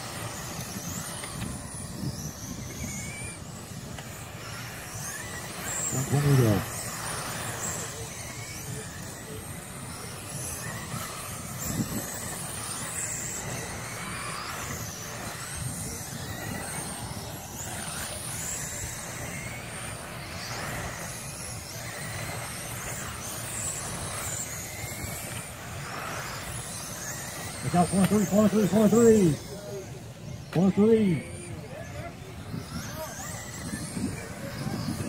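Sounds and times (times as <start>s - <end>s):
rc car motors whining: 0.0s - 35.0s.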